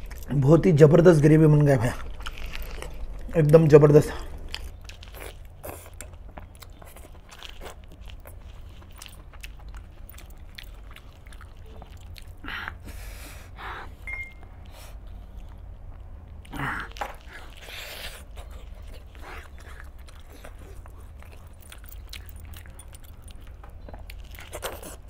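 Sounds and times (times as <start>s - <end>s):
man chewing chicken: 0.0s - 0.4s, 1.6s - 25.0s.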